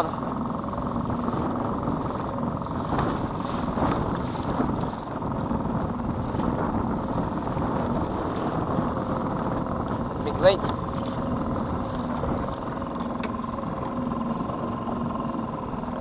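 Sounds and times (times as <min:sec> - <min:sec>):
hull slapping water: 0:00.0 - 0:16.0
outboard motor running: 0:00.0 - 0:16.0.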